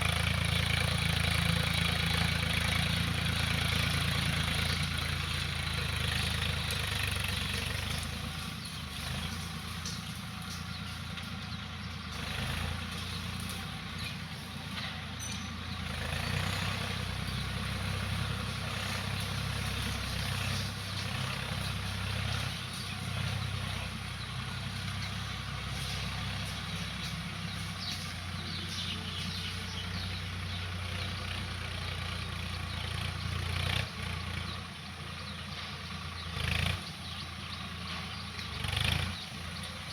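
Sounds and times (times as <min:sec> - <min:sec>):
tractor diesel engine rumble: 0:00.0 - 0:39.9.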